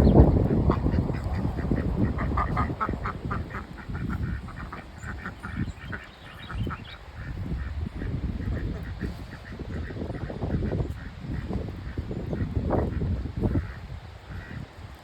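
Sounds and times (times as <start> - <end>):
ducks quacking: 0.0 - 15.0
wind rumbling on microphone: 0.0 - 15.0.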